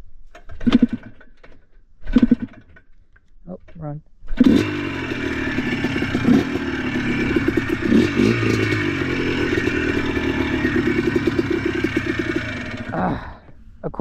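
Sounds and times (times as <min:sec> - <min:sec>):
atv engine running with clatter: 0:00.4 - 0:02.8, 0:04.3 - 0:14.0.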